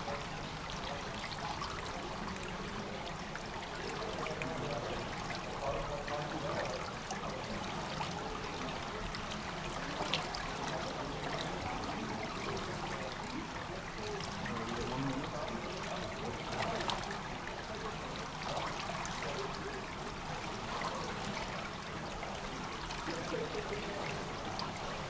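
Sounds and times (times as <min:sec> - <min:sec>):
water trickling into gutter: 0:00.0 - 0:25.0.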